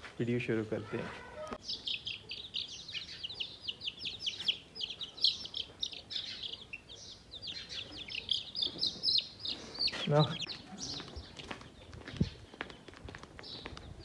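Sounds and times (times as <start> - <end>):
chicks peeping: 0.5 - 14.0.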